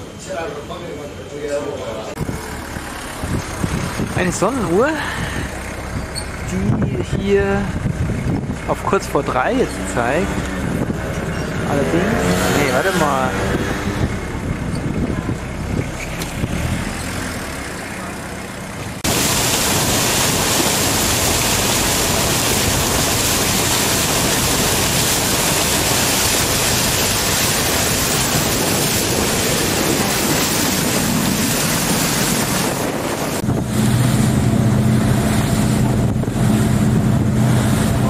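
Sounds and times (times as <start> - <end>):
boat engine drone: 0.0 - 38.0
wind rushing over microphone: 2.2 - 16.9, 19.0 - 38.0.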